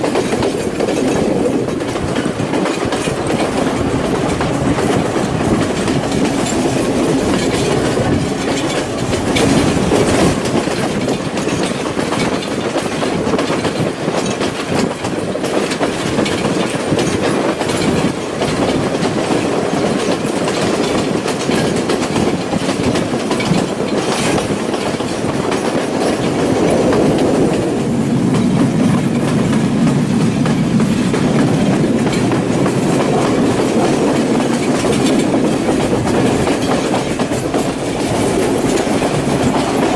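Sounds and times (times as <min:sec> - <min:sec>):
train carriage rumbling on track: 0:00.0 - 0:39.9
wheels clicking on rails: 0:00.0 - 0:39.9.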